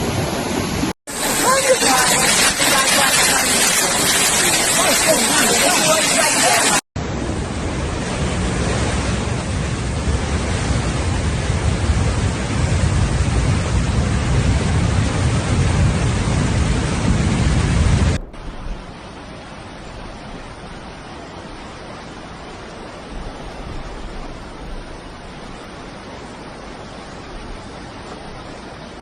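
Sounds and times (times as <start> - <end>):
heavy water rushing: 0.0 - 29.0.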